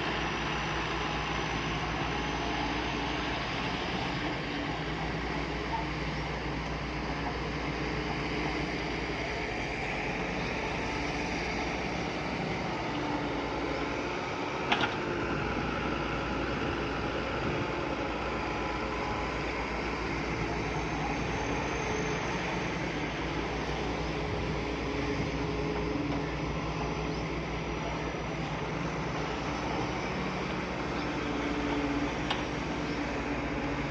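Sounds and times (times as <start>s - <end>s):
heavy machinery diesel engine: 0.0s - 33.9s.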